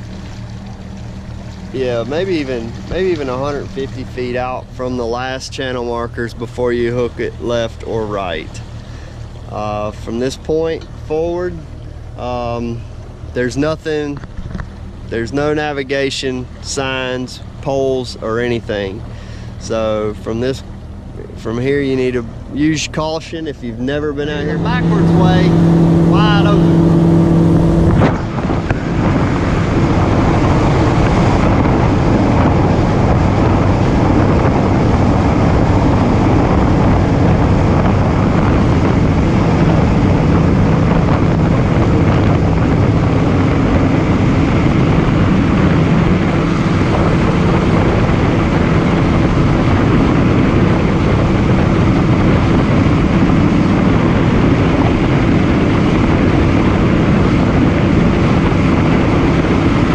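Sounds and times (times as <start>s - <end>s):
boat motor running: 0.0s - 59.9s
wind noise on microphone: 0.0s - 59.9s.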